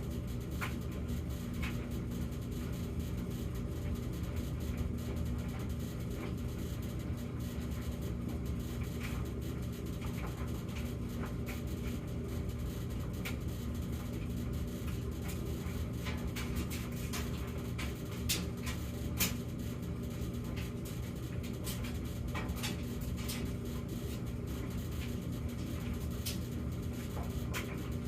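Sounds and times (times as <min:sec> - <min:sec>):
dryer motor and drum drone: 0:00.0 - 0:28.0.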